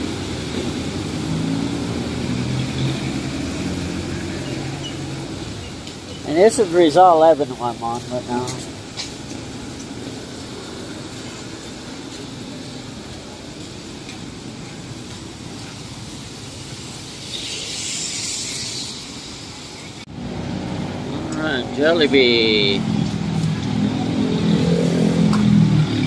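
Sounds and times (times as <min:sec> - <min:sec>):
tyre hiss on wet road: 0:00.0 - 0:23.8
low rumble of vehicles: 0:00.0 - 0:26.0.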